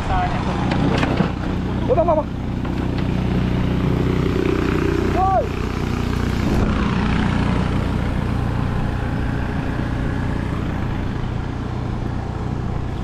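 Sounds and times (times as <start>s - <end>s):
small boat engine running: 0.2s - 13.0s.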